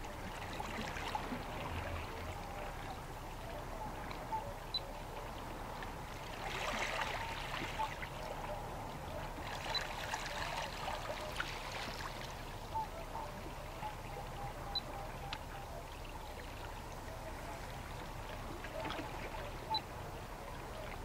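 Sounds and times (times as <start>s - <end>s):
water trickling and lapping: 0.0s - 21.0s.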